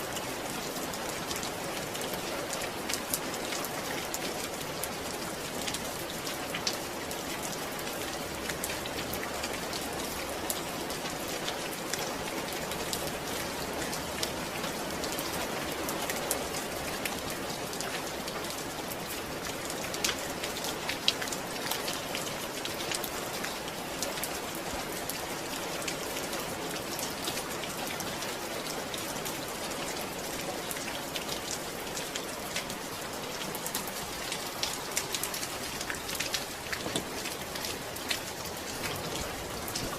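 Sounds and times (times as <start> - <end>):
rain drops hitting: 0.0 - 39.9.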